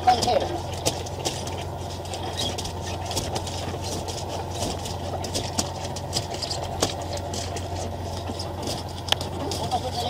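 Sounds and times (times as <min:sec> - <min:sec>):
boat engine idling: 0:00.0 - 0:10.0
sharp knocks and clicks: 0:00.1 - 0:09.8.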